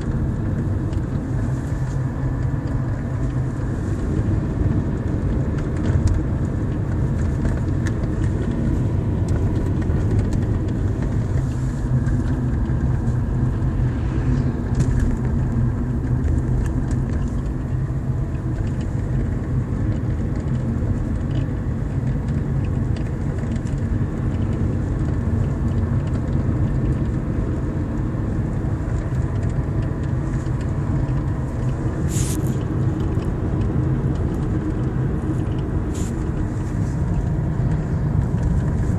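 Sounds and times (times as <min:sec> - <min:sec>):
road and engine drone: 0:00.0 - 0:38.9.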